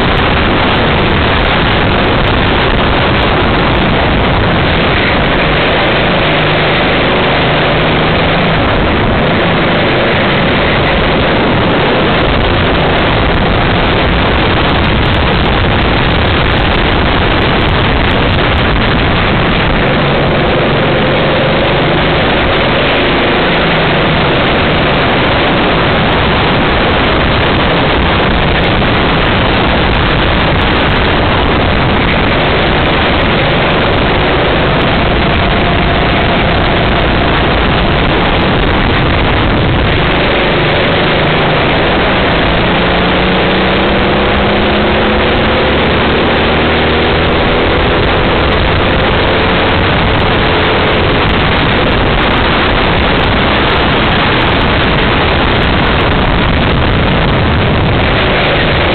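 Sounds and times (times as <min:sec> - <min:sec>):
kart engine: 0:00.0 - 0:58.9
wind noise on microphone: 0:00.0 - 0:58.9.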